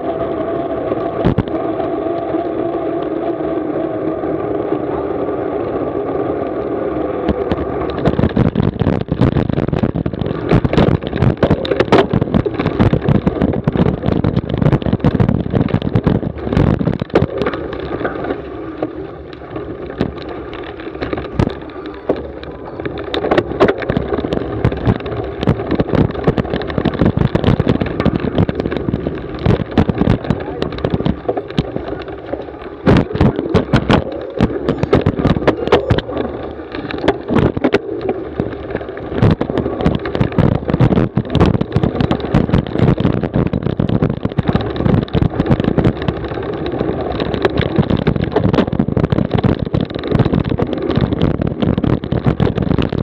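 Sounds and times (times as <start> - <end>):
bike tyre and wind hum: 0.0 - 53.0
bike clattering over rough ground: 6.2 - 53.0.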